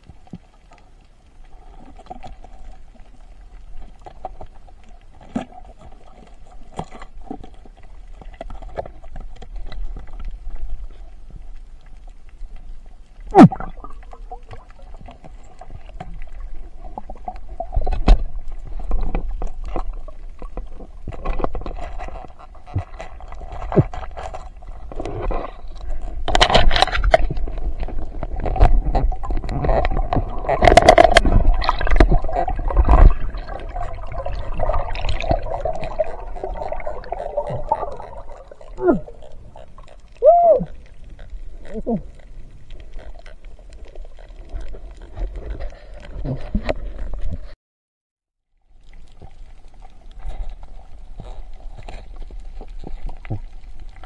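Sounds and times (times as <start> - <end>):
underwater bubbling and gurgling: 0.0 - 47.6, 48.6 - 54.0.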